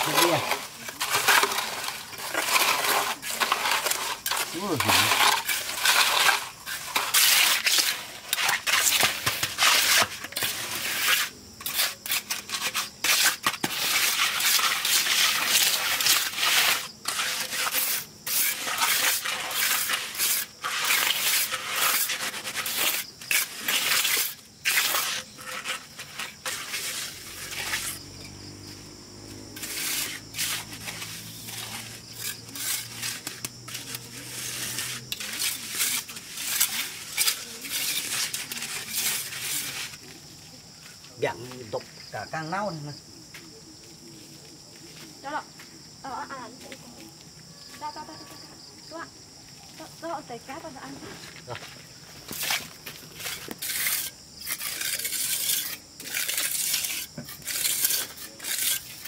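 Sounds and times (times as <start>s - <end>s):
scraping on hard surface: 0.0s - 28.4s, 29.3s - 40.9s, 50.8s - 59.0s.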